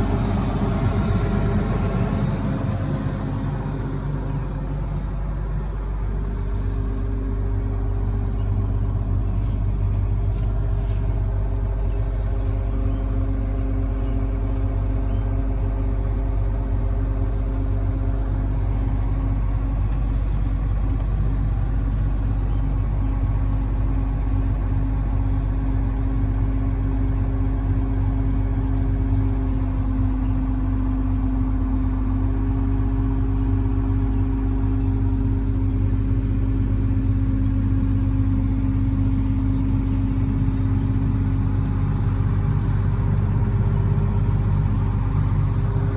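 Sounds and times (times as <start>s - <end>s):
combine harvester diesel engine running: 0.0s - 45.9s.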